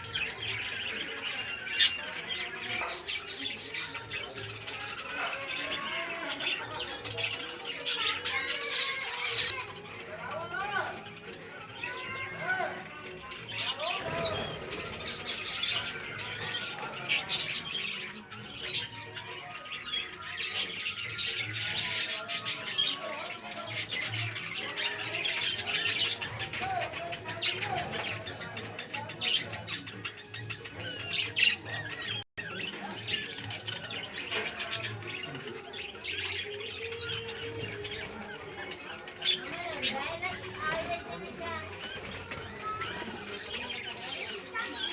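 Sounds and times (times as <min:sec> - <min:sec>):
lovebirds chirping and squawking: 0:00.0 - 0:44.9.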